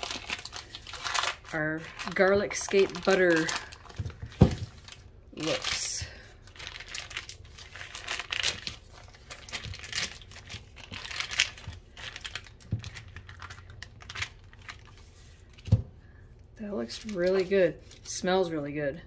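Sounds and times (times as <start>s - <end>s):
plastic wrap and paper crinkling: 0.0s - 15.7s, 16.7s - 18.5s.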